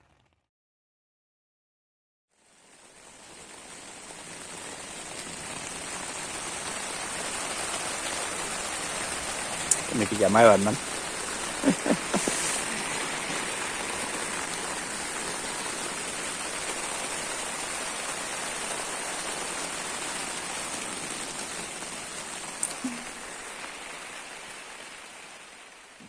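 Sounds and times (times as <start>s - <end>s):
steady rain falling: 2.3s - 26.0s.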